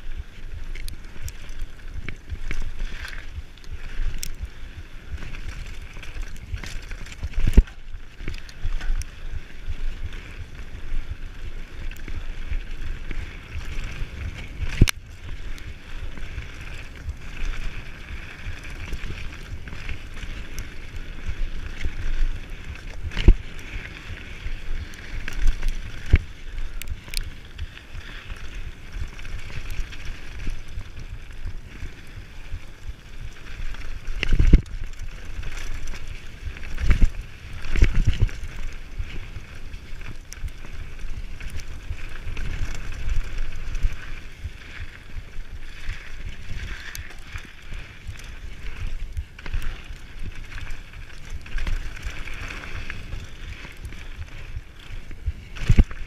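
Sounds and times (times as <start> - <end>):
tyres on loose gravel: 0.0 - 56.0
wind rumble: 0.0 - 56.0
bike knocking and rattling: 0.6 - 56.0.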